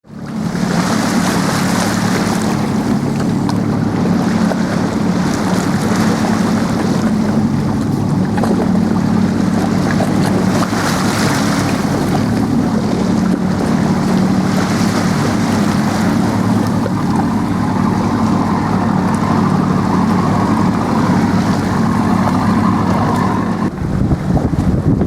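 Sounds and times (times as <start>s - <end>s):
boat motor running: 0.0s - 25.0s
rushing water: 0.0s - 25.0s
wind buffeting microphone: 0.2s - 25.0s.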